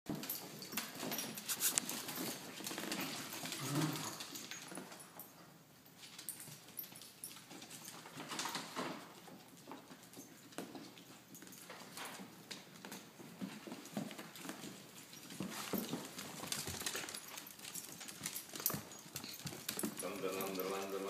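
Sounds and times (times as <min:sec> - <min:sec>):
dog claws clicking on wood floor: 0:00.1 - 0:05.3, 0:06.0 - 0:21.0.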